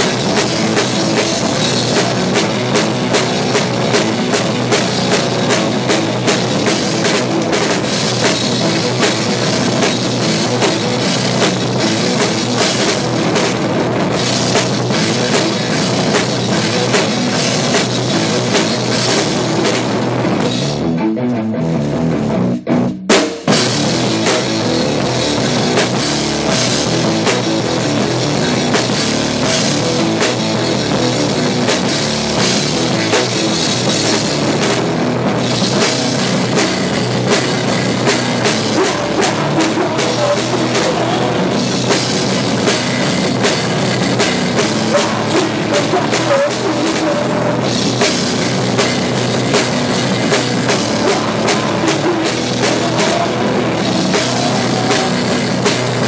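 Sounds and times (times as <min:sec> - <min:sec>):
double pedal bass drum: 0:00.0 - 0:56.0
rock music: 0:00.0 - 0:56.0.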